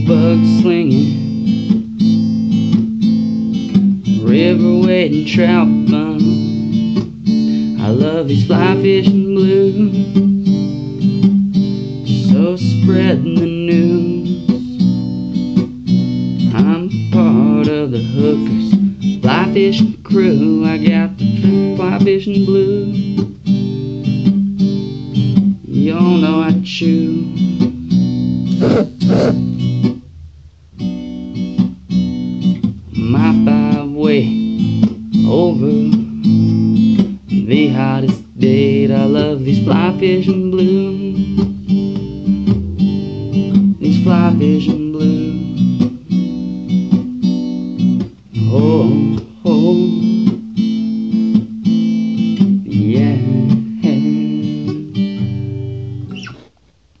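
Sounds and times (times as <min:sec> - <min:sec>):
acoustic guitar strumming: 0:00.0 - 0:56.6.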